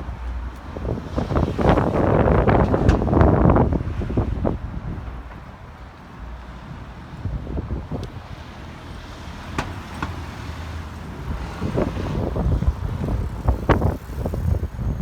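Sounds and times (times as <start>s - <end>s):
road traffic passing: 0.0s - 15.0s
wind buffeting microphone: 0.0s - 15.0s.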